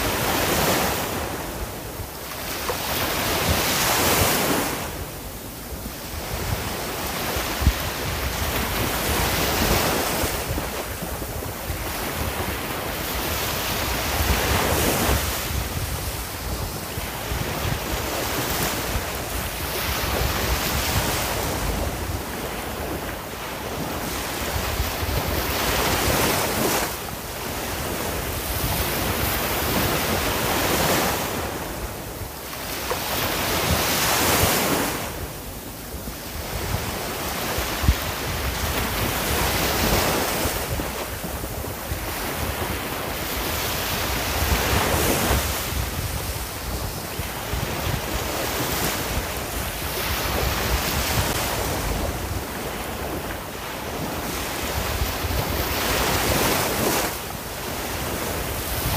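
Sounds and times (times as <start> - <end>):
waves breaking and washing in: 0.0 - 58.9.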